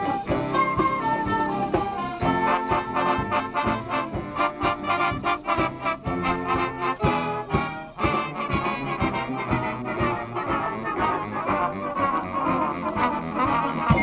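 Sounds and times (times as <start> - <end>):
brass music over beat: 0.0 - 14.0.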